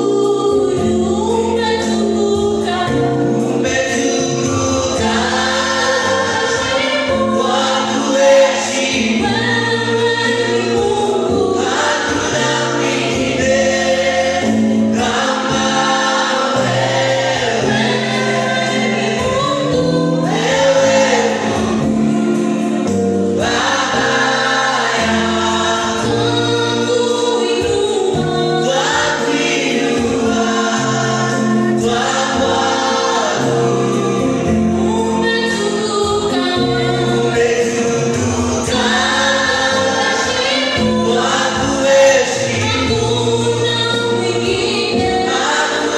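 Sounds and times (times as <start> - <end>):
choir singing gospel song: 0.0 - 45.9
instrumental backing: 0.0 - 45.9.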